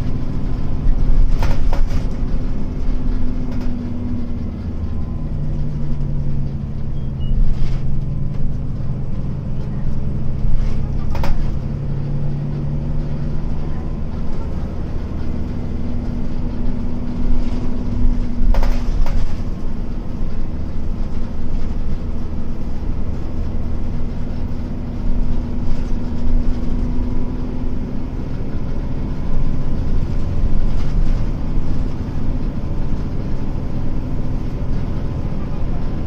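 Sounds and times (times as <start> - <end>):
bus engine drone: 0.0 - 36.0
road rumble: 0.0 - 36.0.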